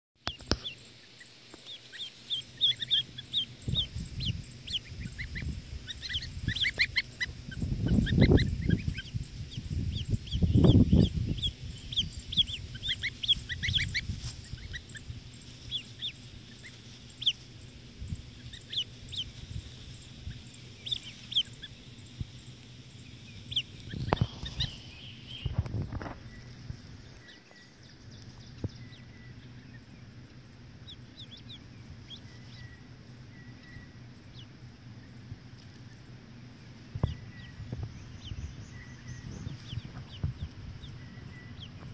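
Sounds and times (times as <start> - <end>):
goslings and ducklings peeping: 0.2 - 41.9
low rumbles: 0.4 - 41.9.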